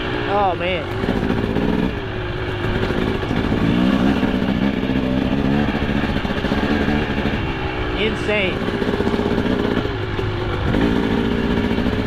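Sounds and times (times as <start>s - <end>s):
two-stroke dirt bike engine revving: 0.0s - 12.0s.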